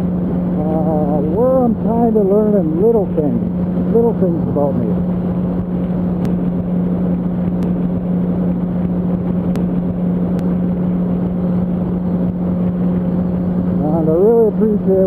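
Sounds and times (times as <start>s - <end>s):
motorcycle engine droning: 0.0s - 15.0s
wind and road noise: 0.0s - 15.0s.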